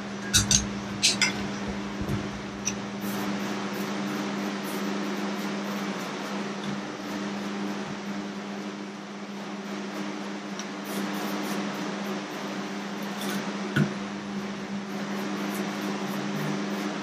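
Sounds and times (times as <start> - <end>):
fan hum and hiss: 0.0 - 17.0.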